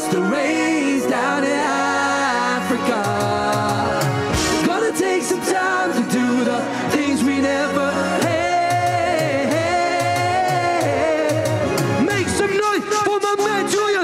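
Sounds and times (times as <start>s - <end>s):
person singing pop song: 0.0s - 14.0s.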